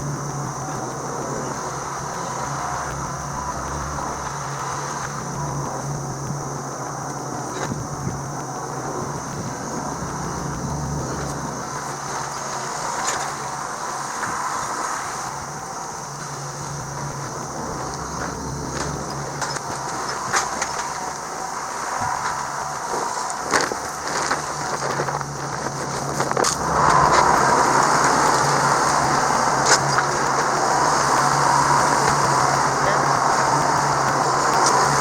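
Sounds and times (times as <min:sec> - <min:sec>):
road running noise: 0:00.0 - 0:35.0
rushing noise: 0:00.0 - 0:35.0
vehicle engine hum: 0:00.0 - 0:35.0.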